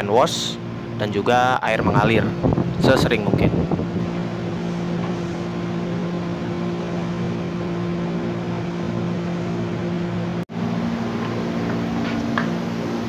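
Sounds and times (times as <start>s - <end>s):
electric train humming and rumbling: 0.0s - 13.0s.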